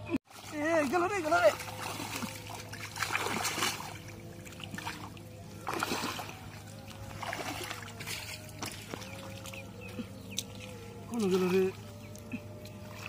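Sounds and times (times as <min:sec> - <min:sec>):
hands splashing in muddy water: 0:00.3 - 0:13.0.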